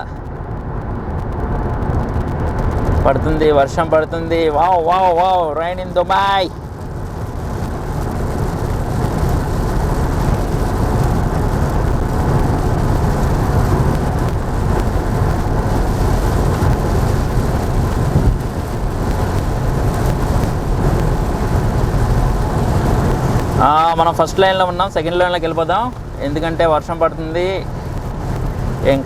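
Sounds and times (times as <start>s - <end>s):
car driving through heavy rain: 0.0s - 29.0s.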